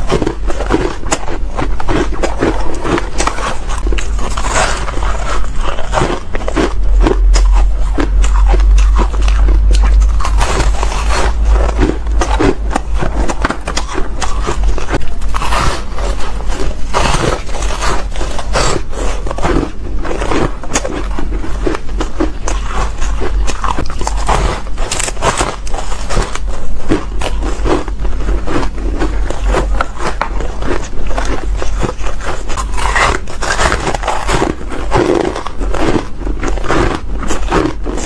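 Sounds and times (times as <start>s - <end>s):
crunching and chewing ice: 0.0s - 38.0s
low steady hum: 0.0s - 38.0s.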